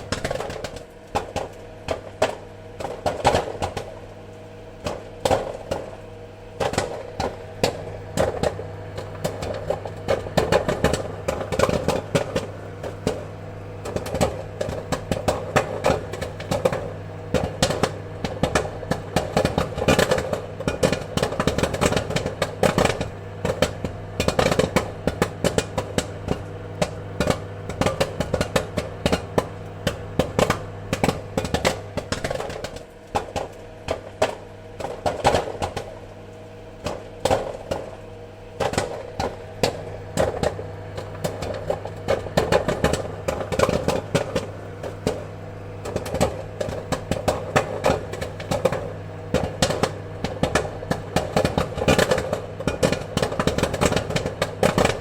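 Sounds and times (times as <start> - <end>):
popcorn popping: 0.0 - 55.0
steady low hum: 0.0 - 55.0.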